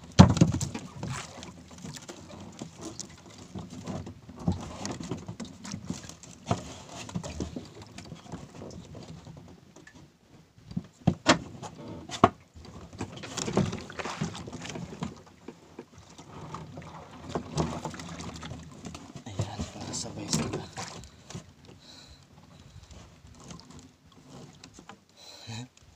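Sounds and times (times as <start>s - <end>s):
knocks and bumps in boat: 0.0s - 25.0s.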